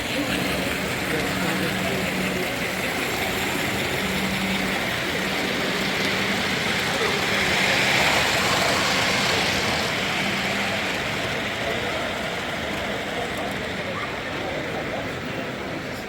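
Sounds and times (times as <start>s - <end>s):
crowd murmur in a large hall: 0.0s - 16.0s.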